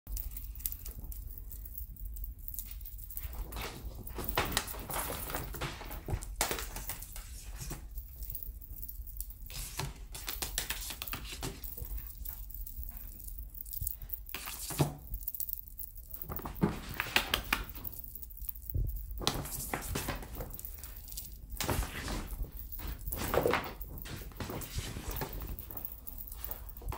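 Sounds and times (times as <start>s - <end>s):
kitten rustling and thumping: 2.4s - 26.9s.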